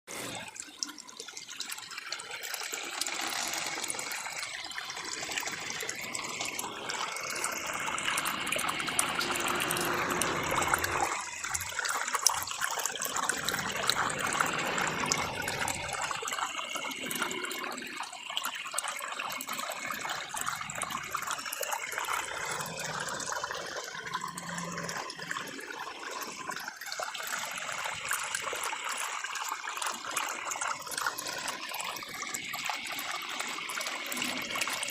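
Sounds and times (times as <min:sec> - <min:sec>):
water sloshing in washing machine: 0:00.1 - 0:34.9.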